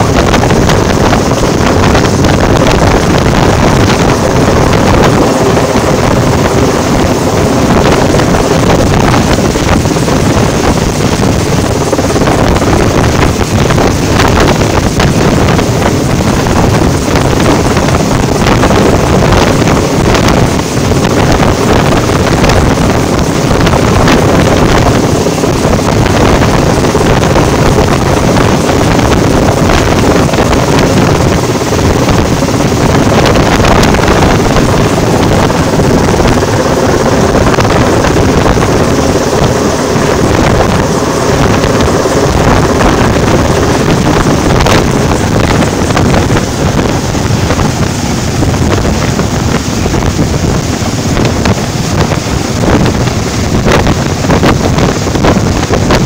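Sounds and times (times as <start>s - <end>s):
helicopter rotor noise: 0.0s - 56.0s
wind noise on microphone: 0.0s - 56.0s.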